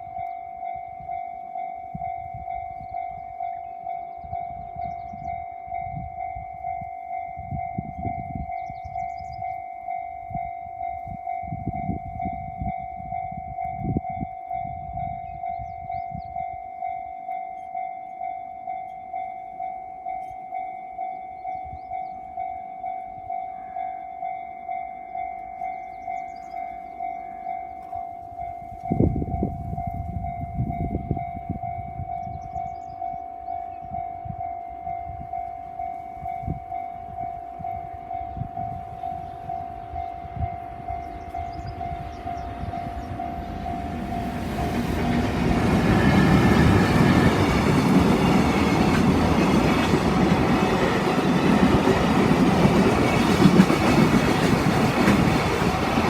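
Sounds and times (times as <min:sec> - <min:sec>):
freight train rumbling: 0:00.0 - 0:56.0
level crossing warning bell: 0:00.0 - 0:56.0.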